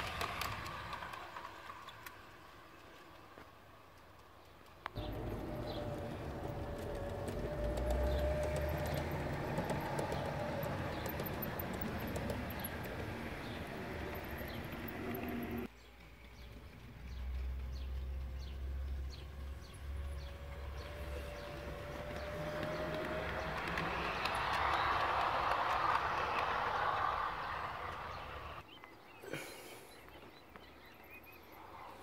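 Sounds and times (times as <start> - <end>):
low rumble of model train: 0.0 - 28.6
wheels clicking over rail joints: 0.0 - 28.6.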